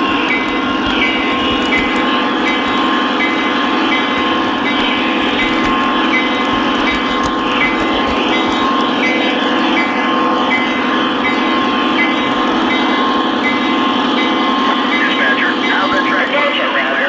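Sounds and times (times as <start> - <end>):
model train wheels rumbling: 0.0 - 17.0.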